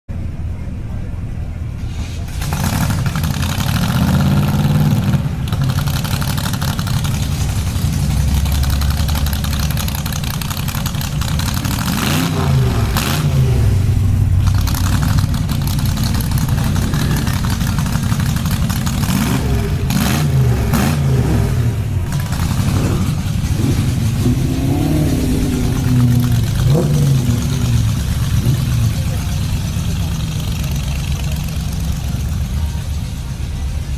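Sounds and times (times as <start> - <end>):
engine revving: 2.0 - 33.4.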